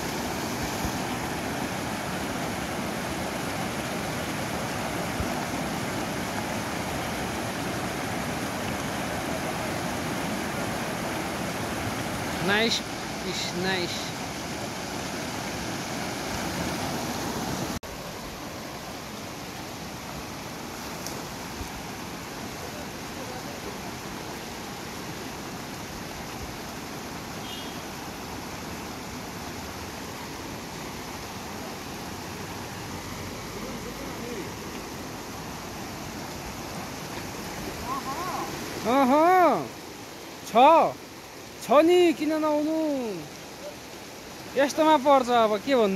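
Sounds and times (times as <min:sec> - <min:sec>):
river rushing over rocks: 0:00.0 - 0:45.9.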